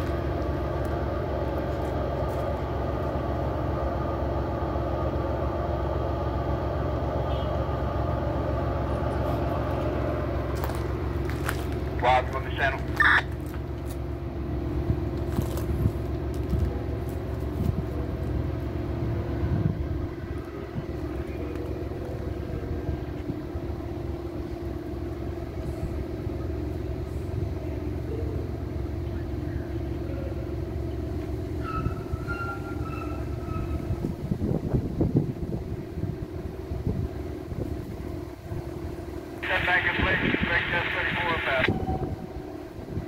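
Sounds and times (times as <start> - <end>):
diesel locomotives idling: 0.0 - 43.0.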